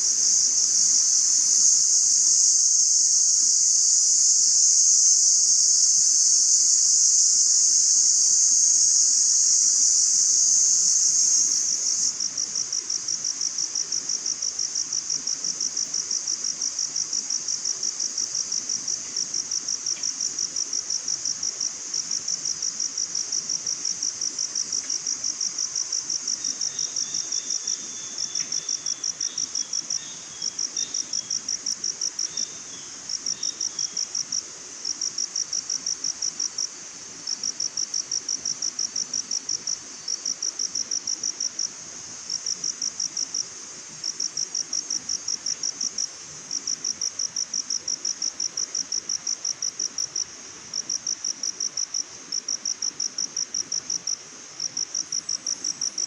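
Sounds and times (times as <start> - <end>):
cricket chirping: 0.0 - 56.0
steady insect hum: 0.0 - 56.0.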